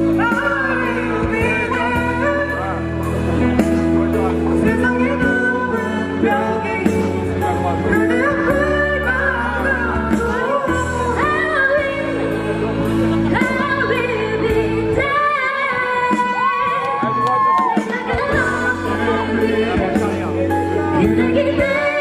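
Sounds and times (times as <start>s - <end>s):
low bass notes: 0.0s - 22.0s
vocal group singing in harmony: 0.0s - 22.0s.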